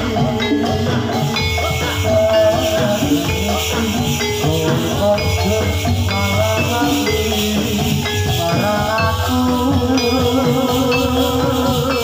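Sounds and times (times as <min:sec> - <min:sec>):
constant rattling shimmer: 0:00.0 - 0:12.0
gamelan held notes: 0:00.0 - 0:12.0
wavering melody line: 0:00.0 - 0:12.0.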